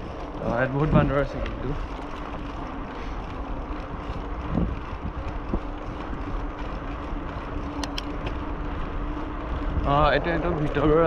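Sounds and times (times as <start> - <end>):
bicycle tyres rolling on road: 0.0 - 11.0
wind buffeting microphone: 0.0 - 11.0.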